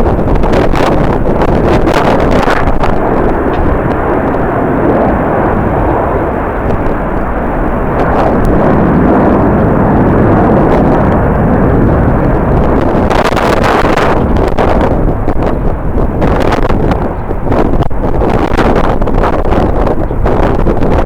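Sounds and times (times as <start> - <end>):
jet engines roaring: 0.0 - 21.0
wind buffeting microphone: 0.0 - 21.0.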